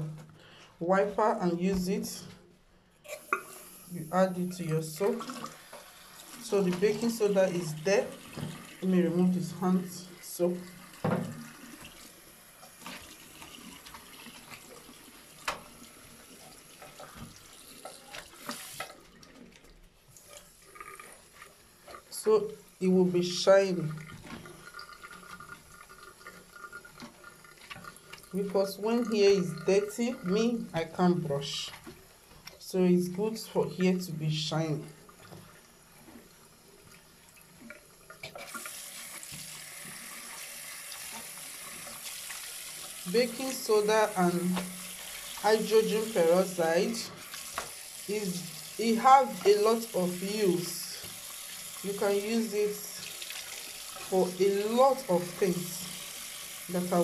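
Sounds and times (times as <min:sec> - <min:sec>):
tap water running into sink: 0:03.1 - 0:33.8, 0:34.7 - 0:57.0.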